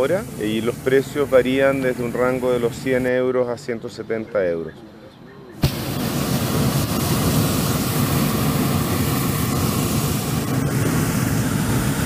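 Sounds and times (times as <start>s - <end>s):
propane burner roaring: 0.0s - 3.4s, 5.6s - 12.0s.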